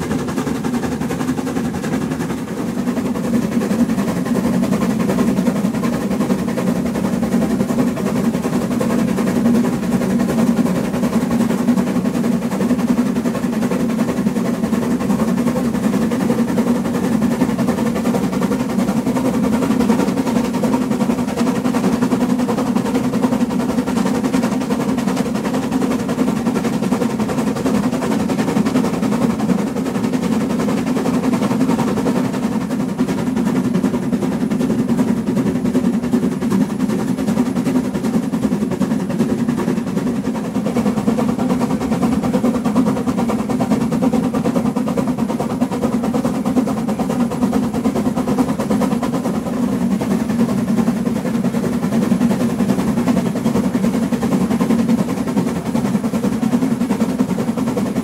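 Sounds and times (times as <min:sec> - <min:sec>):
steam locomotive exhaust beats: 0:00.0 - 0:58.0
train wheel noise: 0:00.0 - 0:58.0.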